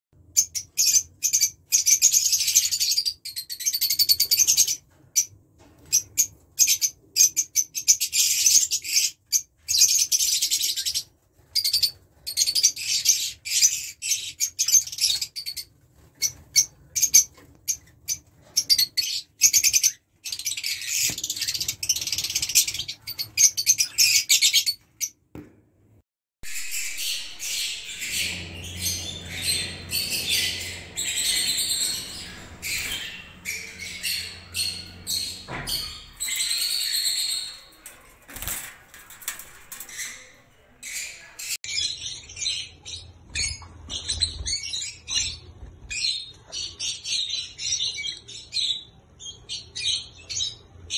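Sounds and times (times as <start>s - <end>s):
lovebirds chirping: 0.4s - 25.2s, 26.4s - 50.6s.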